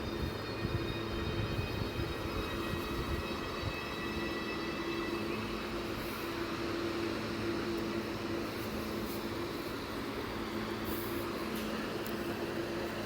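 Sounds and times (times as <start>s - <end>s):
electric train humming: 0.0s - 13.0s
high multi-tone whine: 0.0s - 13.0s.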